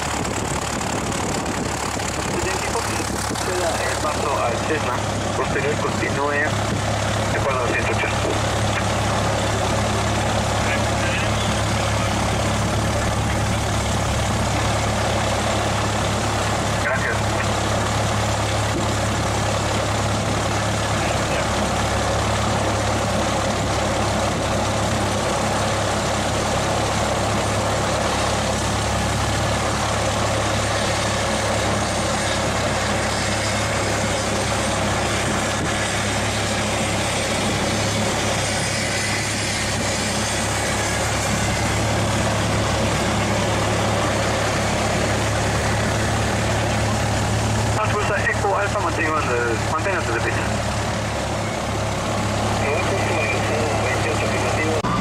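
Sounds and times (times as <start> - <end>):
propeller plane engine hum: 0.0 - 55.0.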